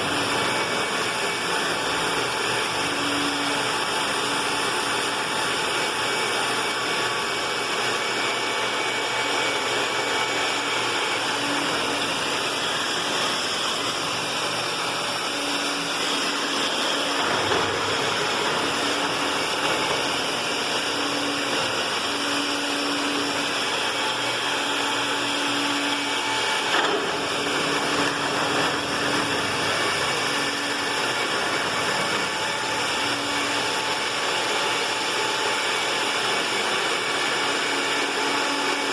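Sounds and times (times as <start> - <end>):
electric drill boring into concrete: 0.0 - 38.9.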